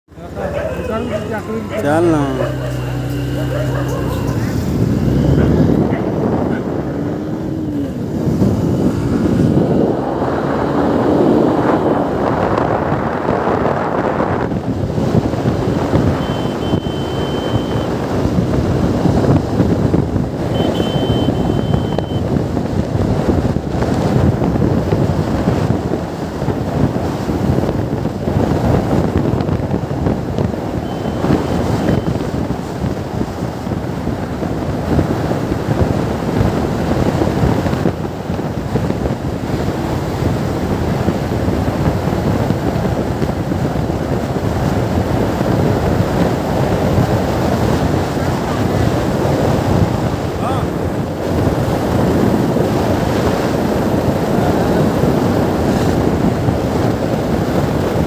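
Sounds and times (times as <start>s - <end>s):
motorcycle engine running: 0.1s - 58.0s
wind buffeting microphone: 0.1s - 58.0s.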